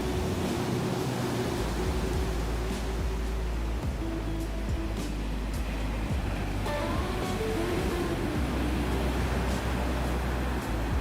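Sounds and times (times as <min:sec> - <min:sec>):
underwater wash of noise: 0:00.0 - 0:11.0
deep low rumble: 0:01.5 - 0:11.0.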